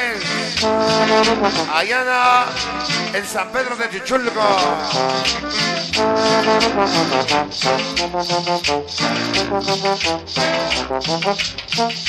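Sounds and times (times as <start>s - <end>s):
brass section melody: 0.0s - 12.0s
shaker rhythm: 0.0s - 12.0s.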